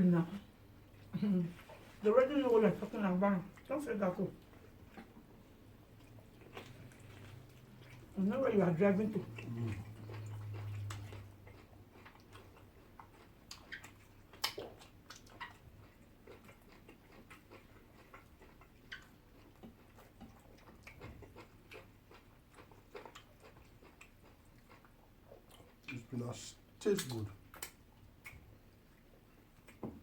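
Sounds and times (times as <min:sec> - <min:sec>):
chewing with mouth clicks: 0:03.4 - 0:26.1, 0:26.9 - 0:30.0.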